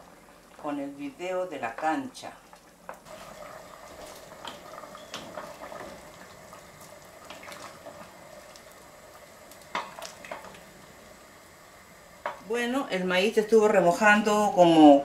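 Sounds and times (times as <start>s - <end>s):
stew simmering and bubbling: 0.0s - 15.0s.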